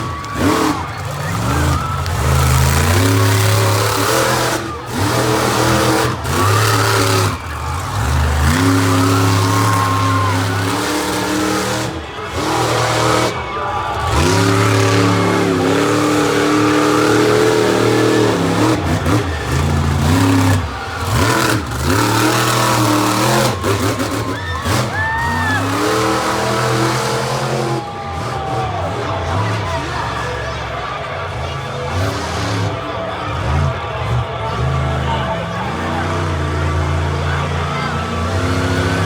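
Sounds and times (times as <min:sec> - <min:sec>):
truck engine revving hard: 0:00.0 - 0:39.0.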